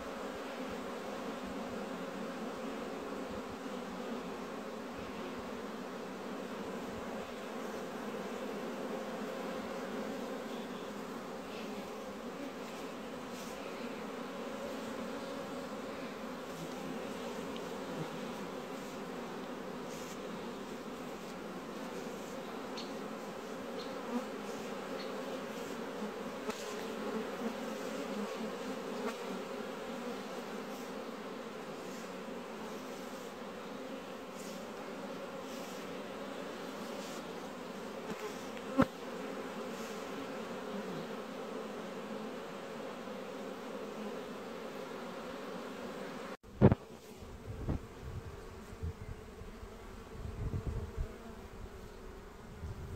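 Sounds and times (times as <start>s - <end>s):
honeybees humming: 0.0s - 52.9s.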